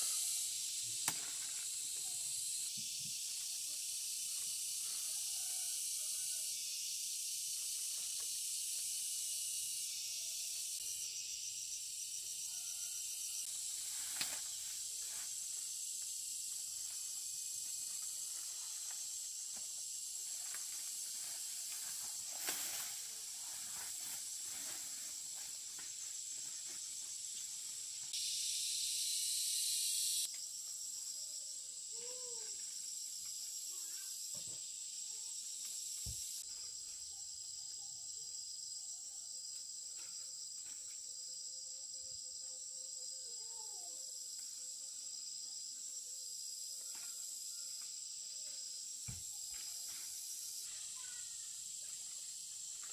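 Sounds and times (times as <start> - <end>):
high-pitched insect buzz: 0.0 - 52.9.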